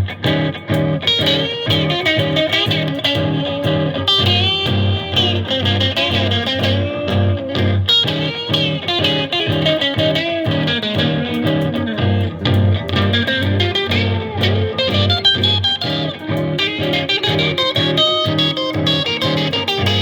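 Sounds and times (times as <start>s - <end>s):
electric guitar lead line: 0.0s - 20.0s
electric guitar rhythm chords: 0.0s - 20.0s.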